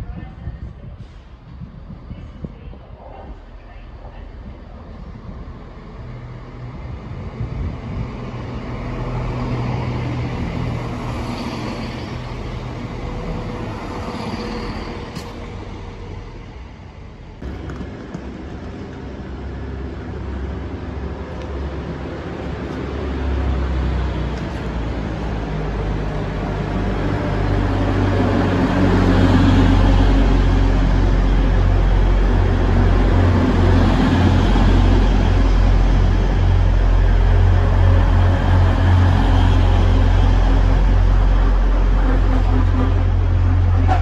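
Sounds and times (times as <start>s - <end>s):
diesel train engines running: 0.0s - 44.0s
train engines and wheels rumbling: 0.0s - 44.0s.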